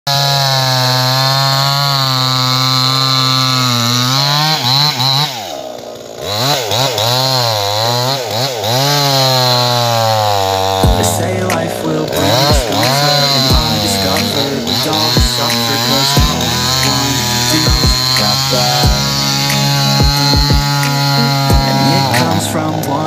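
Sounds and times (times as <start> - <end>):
chainsaw cutting: 0.1 - 23.0.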